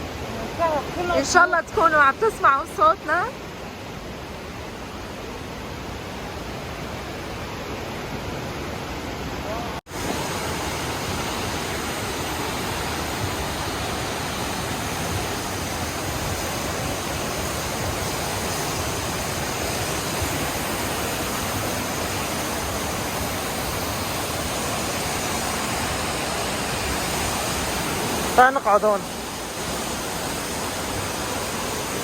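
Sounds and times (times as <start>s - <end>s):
waterfall and river rushing: 0.0s - 32.0s.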